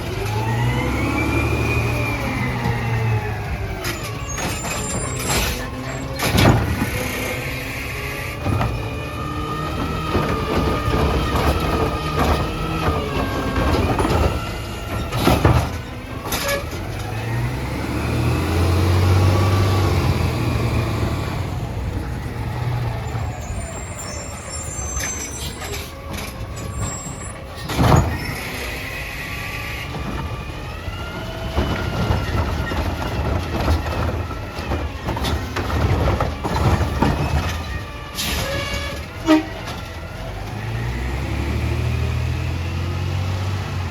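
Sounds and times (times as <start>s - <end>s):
garbage truck engine revving: 0.0s - 43.9s.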